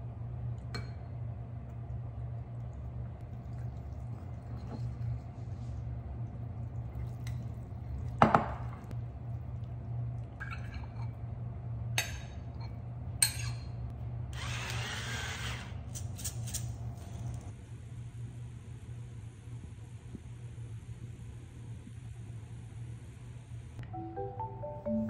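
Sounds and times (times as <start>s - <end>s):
low steady hum: 0.0s - 14.6s, 15.5s - 25.0s.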